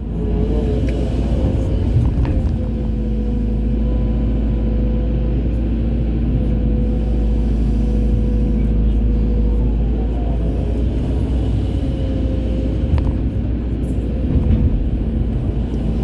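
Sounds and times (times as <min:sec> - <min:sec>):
excavator diesel engine rumbling: 0:00.0 - 0:16.0.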